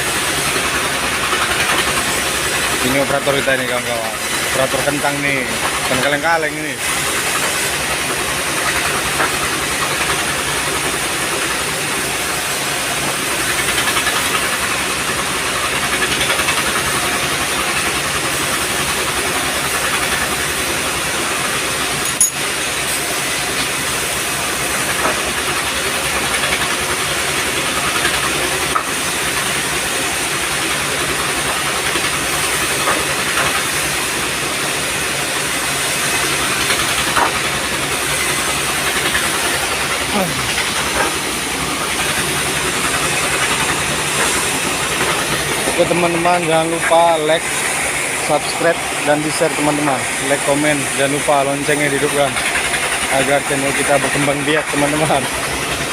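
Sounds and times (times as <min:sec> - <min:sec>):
sawmill machinery hissing: 0:00.0 - 0:55.9.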